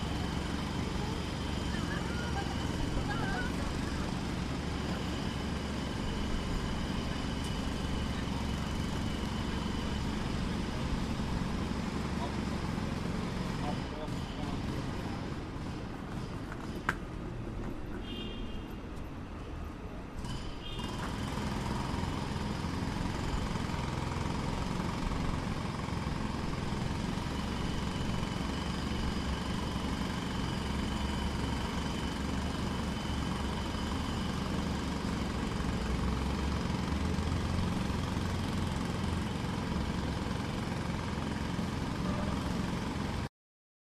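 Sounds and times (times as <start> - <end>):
jackhammer hammering: 0.0 - 16.9, 20.2 - 43.3.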